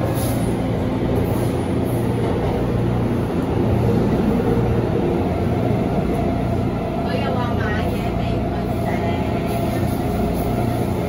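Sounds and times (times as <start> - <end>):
train running noise with hum: 0.0 - 11.0.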